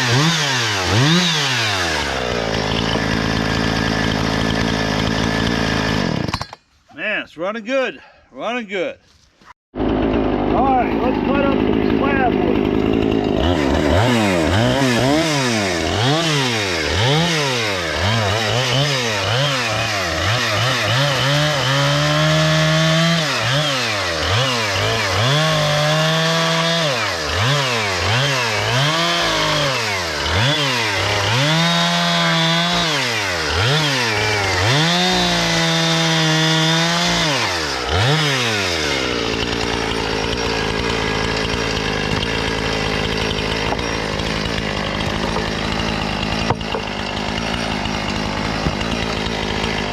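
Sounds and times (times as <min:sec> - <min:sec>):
chainsaw cutting wood: 0:00.0 - 0:06.8, 0:09.8 - 0:49.9.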